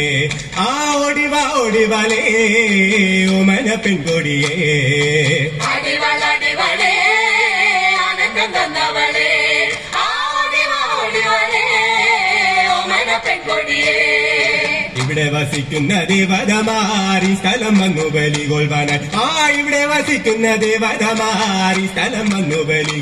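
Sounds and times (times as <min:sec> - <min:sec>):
men and women singing together: 0:00.0 - 0:23.0.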